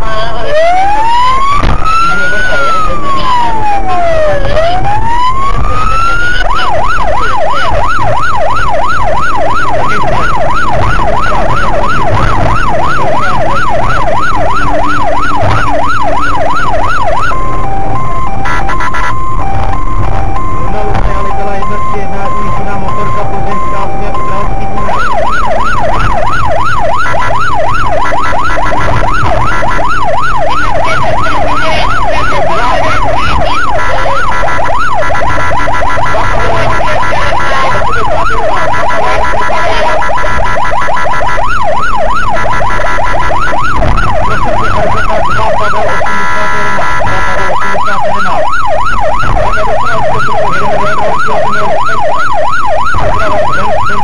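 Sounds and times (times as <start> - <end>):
police siren yelping: 0.0 - 54.0
road and engine noise: 0.0 - 54.0.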